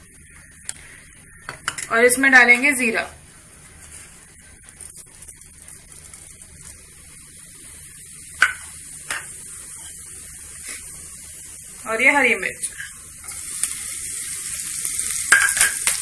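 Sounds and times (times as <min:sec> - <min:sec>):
seeds sizzling in hot oil: 0:00.0 - 0:16.0.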